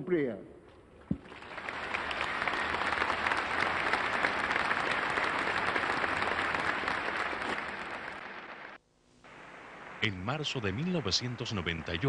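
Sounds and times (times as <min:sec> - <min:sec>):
crowd applauding: 0:01.2 - 0:12.0.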